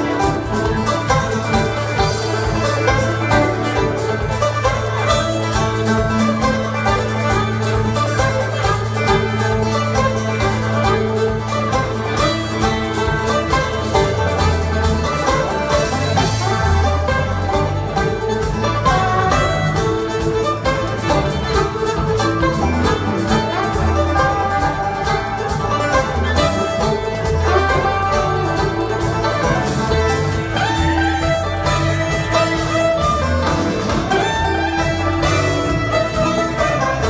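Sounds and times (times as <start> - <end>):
banjo: 0.0 - 37.0
drums: 0.0 - 37.0
guitars: 0.0 - 37.0
upright bass: 0.0 - 37.0.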